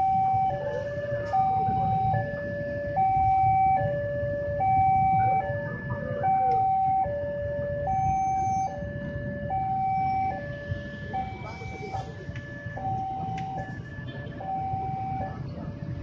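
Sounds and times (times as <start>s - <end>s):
motorcycle engines rumbling: 0.0s - 16.0s
two-tone crossing alarm: 0.0s - 16.0s.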